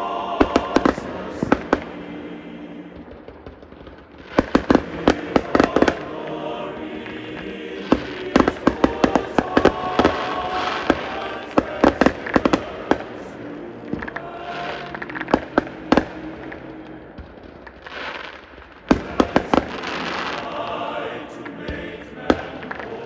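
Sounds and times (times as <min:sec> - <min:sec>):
background music: 0:00.0 - 0:23.0
fireworks bangs and crackles: 0:00.0 - 0:23.0.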